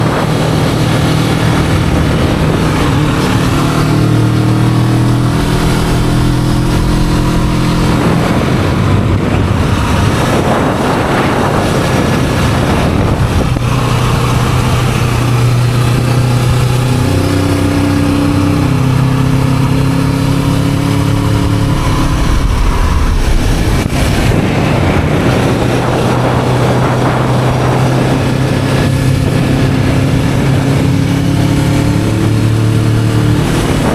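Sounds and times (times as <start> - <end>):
motorcycle engine running: 0.0 - 33.9
wind buffeting microphone: 0.0 - 33.9.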